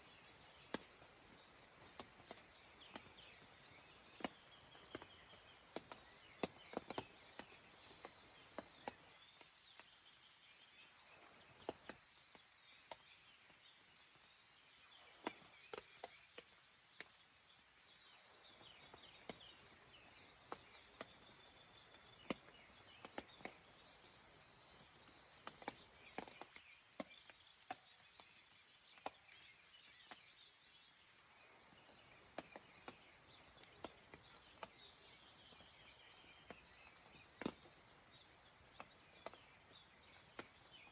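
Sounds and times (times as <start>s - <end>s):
birds chirping: 0.0s - 40.9s
raindrops tapping: 0.0s - 40.9s.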